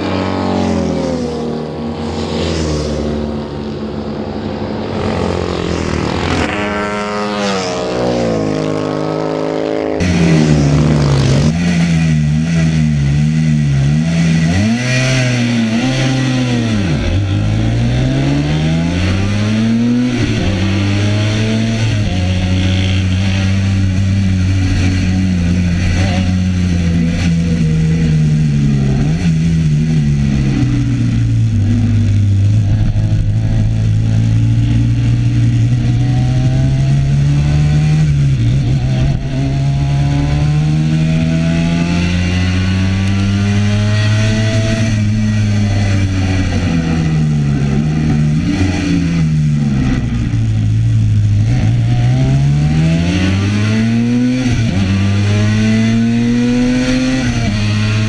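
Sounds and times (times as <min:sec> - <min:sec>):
racing motorcycle engine: 0:00.0 - 0:58.0.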